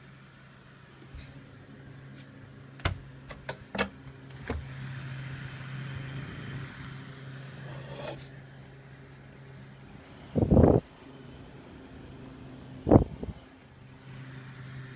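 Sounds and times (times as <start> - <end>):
exhaust fan motor humming: 0.0 - 14.9.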